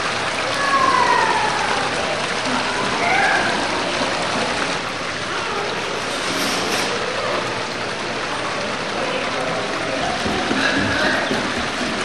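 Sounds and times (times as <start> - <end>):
faint voices: 0.0 - 12.0
running water: 0.0 - 12.0.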